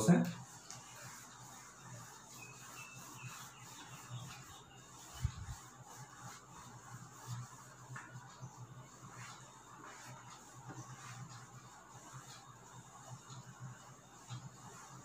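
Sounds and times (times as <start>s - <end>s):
duster rubbing on whiteboard: 0.0s - 15.0s.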